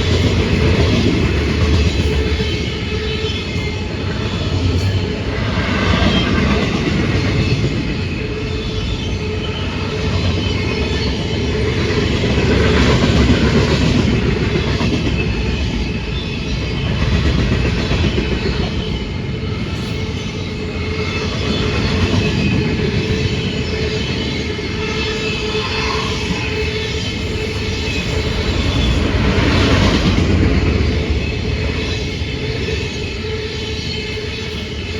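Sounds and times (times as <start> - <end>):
train wheels rumbling on rail: 0.0 - 34.9.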